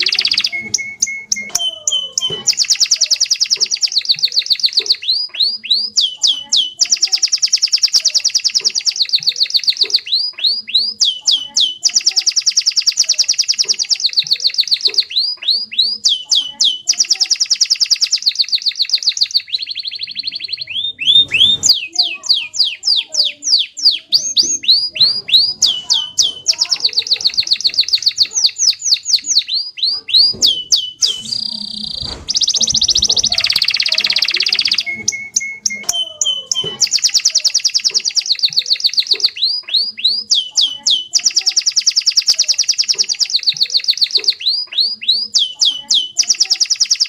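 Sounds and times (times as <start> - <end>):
canary singing: 0.0 - 47.0.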